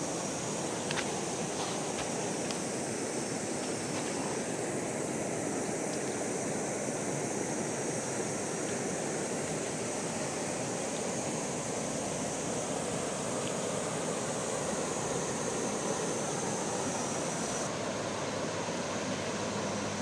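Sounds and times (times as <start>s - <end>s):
river flowing past stones: 0.0s - 20.0s
steady high hiss: 0.0s - 20.0s.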